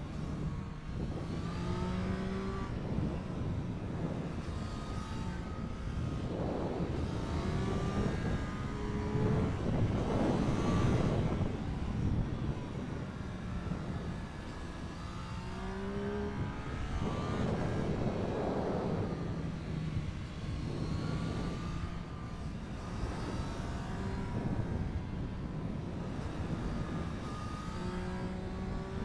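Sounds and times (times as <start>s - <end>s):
motorcycle engine accelerating hard: 0.0s - 29.0s.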